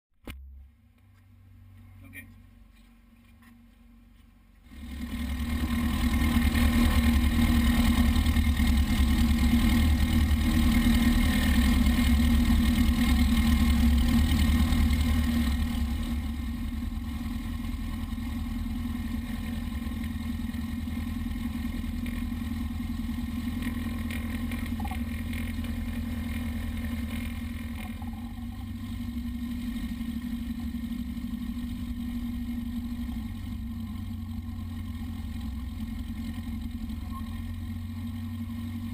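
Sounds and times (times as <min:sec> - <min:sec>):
light aircraft engine and propeller: 0:00.3 - 0:38.9.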